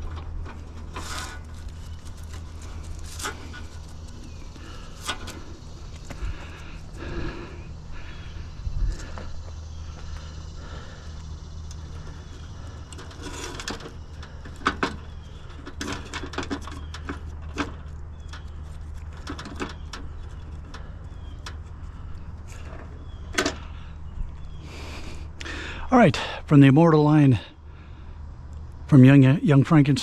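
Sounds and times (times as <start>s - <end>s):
low engine hum: 0.0s - 30.0s.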